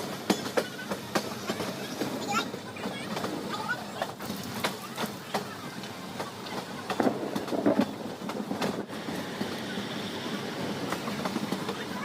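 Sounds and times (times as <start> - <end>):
train rolling rumble: 0.0 - 12.0
wheels clacking over rail joints: 0.0 - 12.0.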